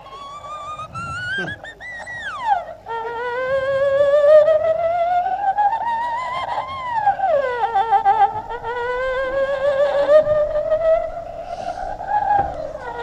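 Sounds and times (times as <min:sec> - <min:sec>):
eerie wavering wail: 0:00.0 - 0:13.0.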